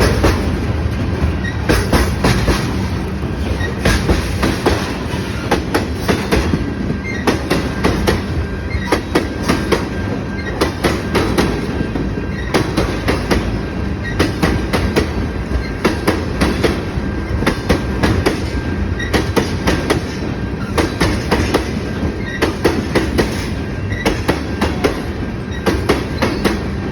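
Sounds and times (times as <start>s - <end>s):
freight train rumble: 0.0s - 26.9s.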